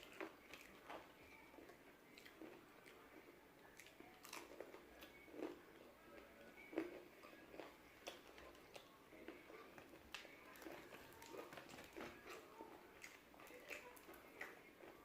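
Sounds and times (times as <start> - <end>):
chewing crispy fried chicken: 0.0 - 15.0.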